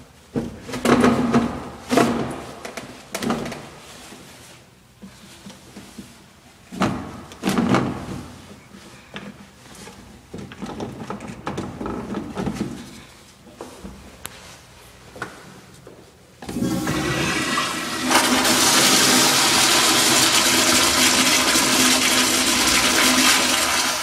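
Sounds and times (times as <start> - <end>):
knocks and rattles in tiled room: 0.0 - 14.4, 15.0 - 24.0.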